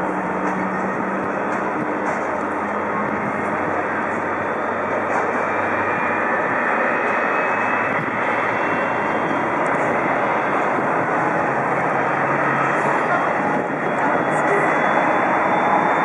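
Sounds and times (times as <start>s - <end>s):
jet engine rushing noise: 0.0s - 16.0s.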